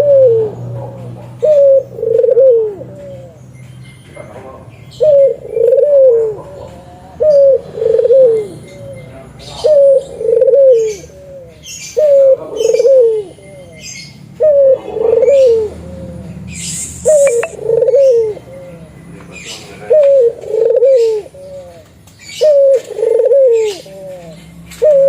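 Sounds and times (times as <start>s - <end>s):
dove cooing: 0.0s - 3.4s, 4.9s - 16.4s, 17.0s - 25.0s
small birds chirping: 2.9s - 25.0s.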